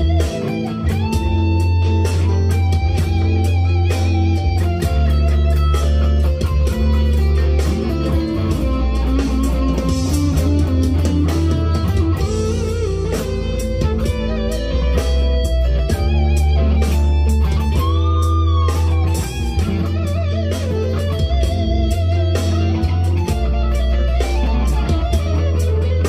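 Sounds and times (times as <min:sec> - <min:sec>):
electric guitar through amplifier: 0:00.0 - 0:26.0.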